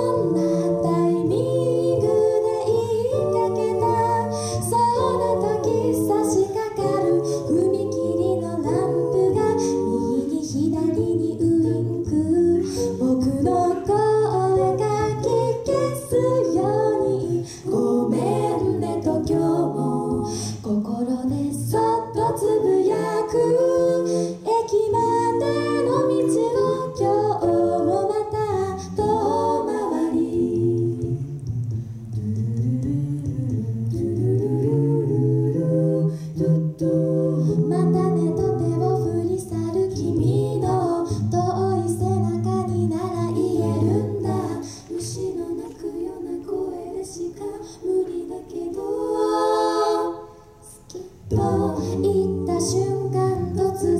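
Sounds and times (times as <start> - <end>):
a cappella group singing: 0.0 - 53.9.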